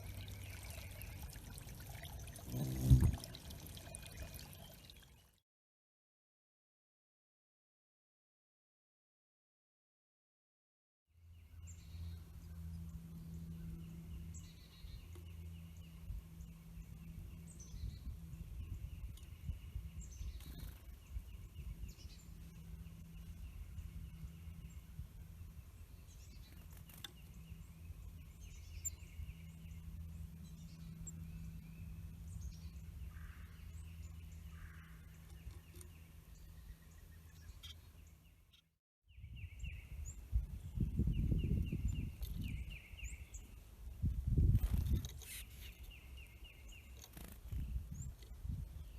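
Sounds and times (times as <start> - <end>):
songbirds chirping: 0.0 - 5.4, 11.2 - 48.9.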